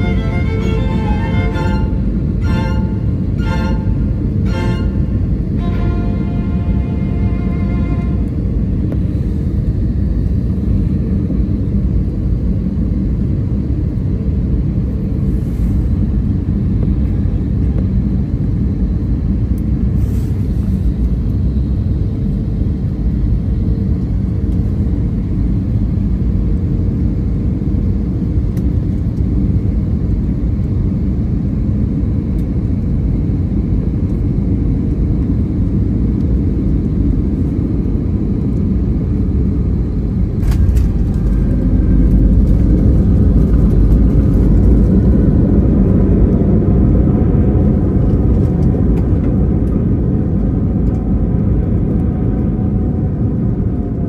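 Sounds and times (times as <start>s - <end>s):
jet airliner cabin rumble: 0.0s - 54.0s.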